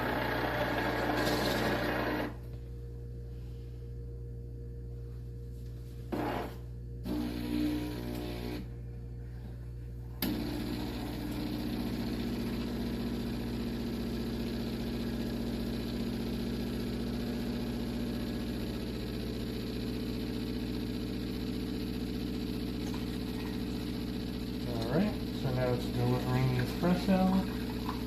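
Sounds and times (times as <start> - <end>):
coffee maker motor humming: 0.0 - 2.6, 6.1 - 28.0.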